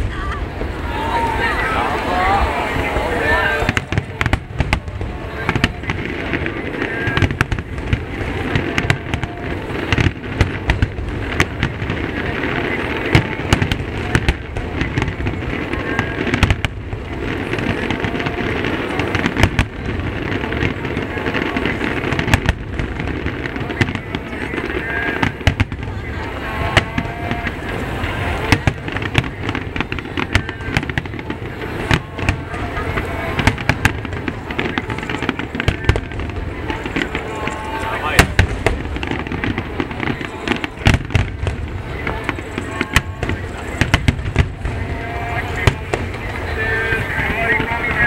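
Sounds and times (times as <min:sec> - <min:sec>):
fireworks bursting: 0:00.0 - 0:48.0
murmur of crowd voices: 0:00.0 - 0:48.0.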